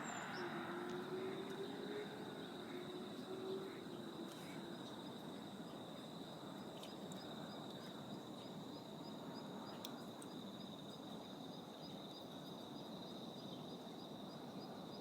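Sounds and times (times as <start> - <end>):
faint low hum: 0.0 - 14.8
insect droning: 0.0 - 15.0.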